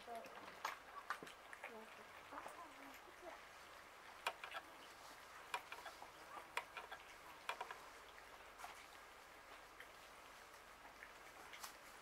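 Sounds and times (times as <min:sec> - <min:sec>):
cats chewing and smacking: 0:00.0 - 0:12.0.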